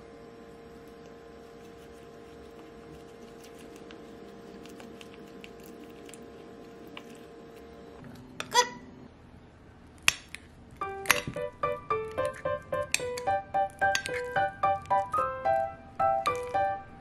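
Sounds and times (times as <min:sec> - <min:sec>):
steady hum: 0:00.0 - 0:09.9, 0:10.8 - 0:17.0.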